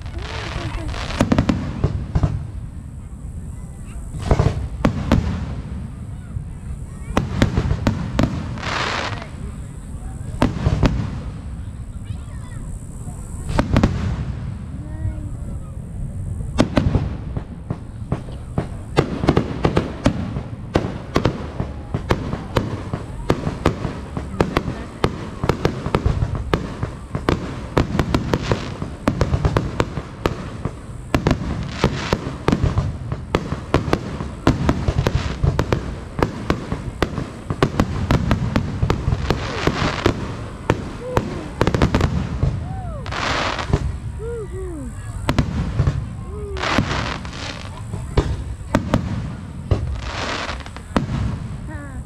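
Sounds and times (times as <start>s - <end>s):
fireworks bursting: 0.0s - 52.0s
fireworks crackling: 0.0s - 52.0s.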